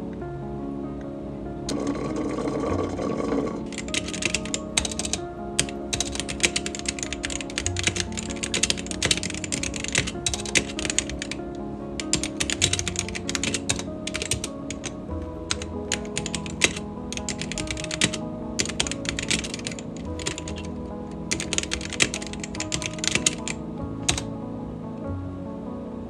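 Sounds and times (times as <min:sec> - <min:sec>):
soft background music: 0:00.0 - 0:26.0
fast typing on keyboard: 0:01.7 - 0:24.3.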